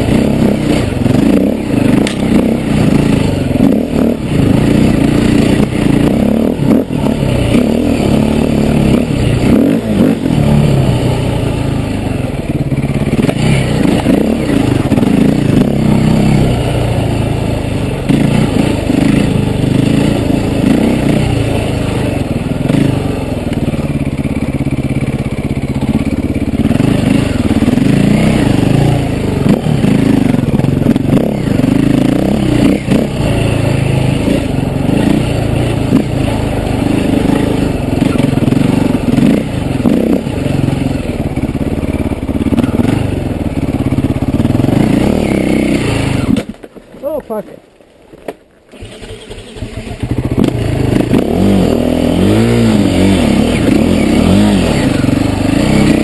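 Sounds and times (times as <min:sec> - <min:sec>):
motorcycle engine revving: 0:00.0 - 0:47.5, 0:48.7 - 0:56.0.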